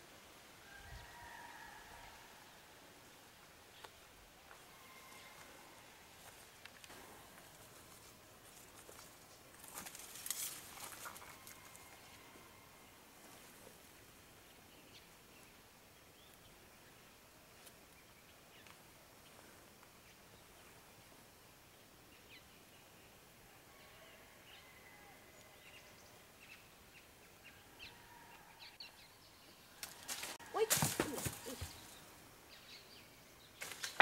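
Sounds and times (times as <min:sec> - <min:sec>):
faint outdoor hiss: 0:00.0 - 0:34.0.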